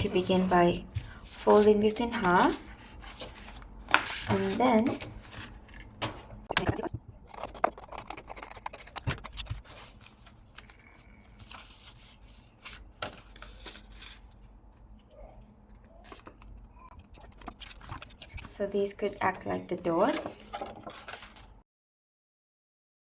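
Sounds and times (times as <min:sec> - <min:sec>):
paper rustling and creasing: 0:00.0 - 0:06.6, 0:07.2 - 0:21.6.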